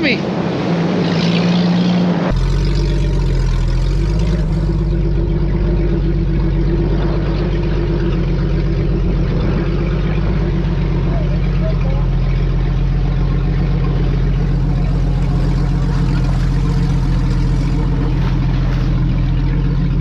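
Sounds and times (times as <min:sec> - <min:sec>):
vehicle engine idling: 0:02.2 - 0:20.0.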